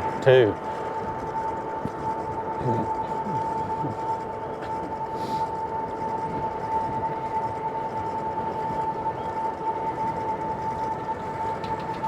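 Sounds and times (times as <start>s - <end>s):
electric bike motor whining: 0.0s - 12.0s.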